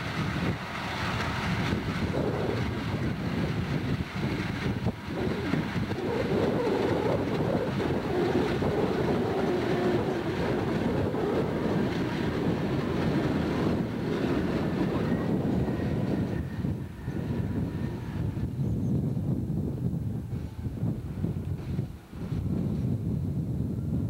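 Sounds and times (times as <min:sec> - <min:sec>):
diesel locomotive engine rumble: 0:00.0 - 0:24.0
wind buffeting microphone: 0:00.0 - 0:24.0.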